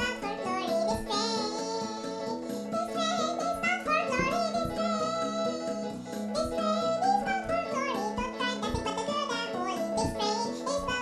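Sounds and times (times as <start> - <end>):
high-pitched voice singing: 0.0 - 11.0
instrumental backing music: 0.0 - 11.0.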